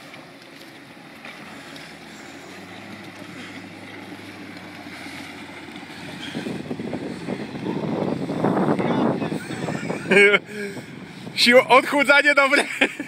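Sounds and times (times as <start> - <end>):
jet ski engine running: 0.0 - 13.0
water churning and splashing: 0.0 - 13.0.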